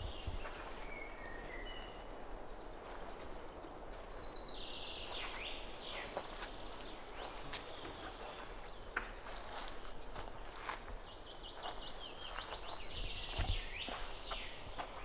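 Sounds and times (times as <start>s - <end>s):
birds singing and calling: 0.0s - 15.0s.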